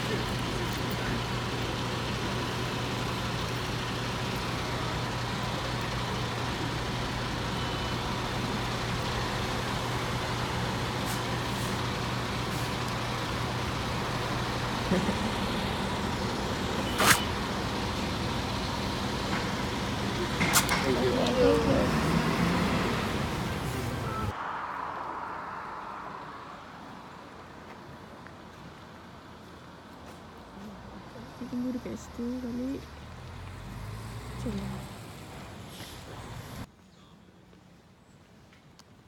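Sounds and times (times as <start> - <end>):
bus engine humming: 0.0 - 36.7.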